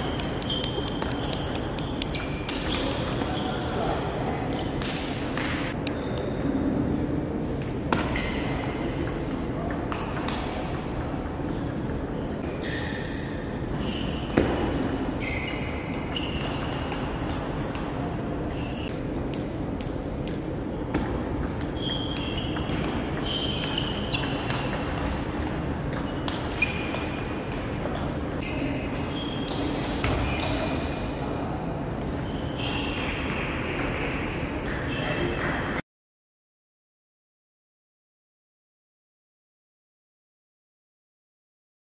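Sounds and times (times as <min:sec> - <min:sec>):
sports hall background noise: 0:00.0 - 0:35.8.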